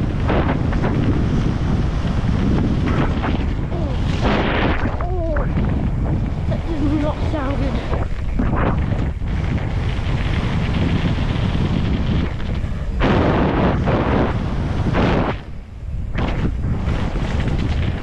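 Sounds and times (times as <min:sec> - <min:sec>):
bike tyres and frame rattling: 0:00.0 - 0:18.0
wind buffeting microphone: 0:00.0 - 0:18.0.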